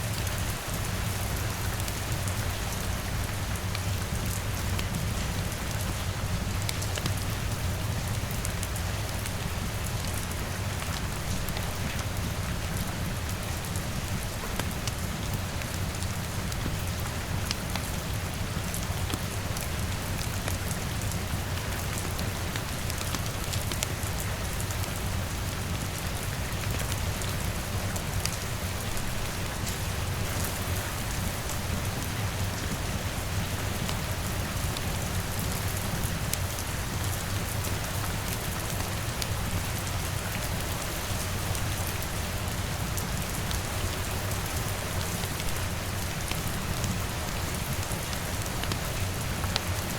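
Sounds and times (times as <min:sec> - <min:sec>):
rain hissing on a window: 0:00.0 - 0:49.9.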